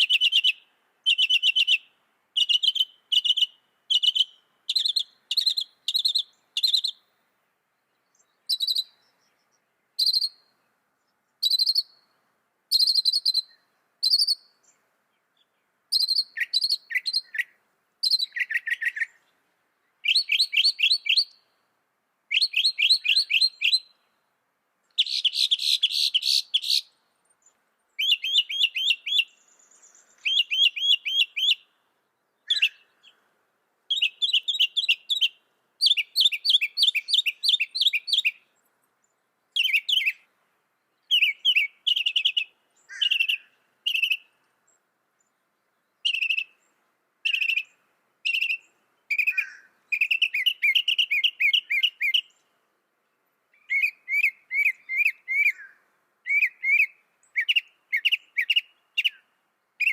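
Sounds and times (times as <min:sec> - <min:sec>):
mockingbird singing: 0:00.0 - 0:07.1, 0:07.9 - 0:10.5, 0:11.4 - 0:12.1, 0:12.7 - 0:14.8, 0:15.4 - 0:19.3, 0:19.9 - 0:21.5, 0:22.3 - 0:24.1, 0:24.9 - 0:33.2, 0:33.9 - 0:40.3, 0:41.0 - 0:44.4, 0:45.9 - 0:52.4, 0:53.6 - 0:59.9.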